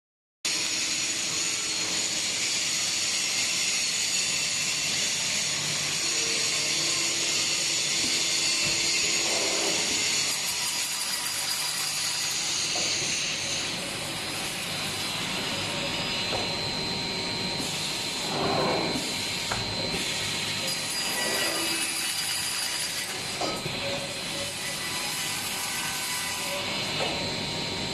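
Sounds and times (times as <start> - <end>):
saw cutting polystyrene moulding: 0.5 - 27.4.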